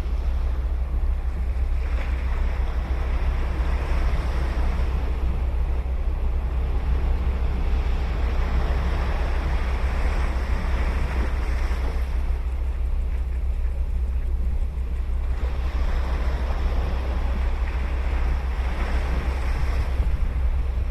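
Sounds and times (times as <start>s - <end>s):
deep rumble: 0.0s - 20.9s
ocean surf breaking on beach: 1.7s - 20.9s.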